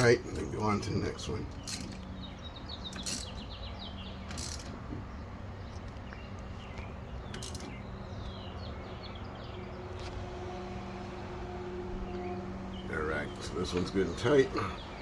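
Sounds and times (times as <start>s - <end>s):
small birds chirping: 0.0s - 10.2s, 12.0s - 15.0s.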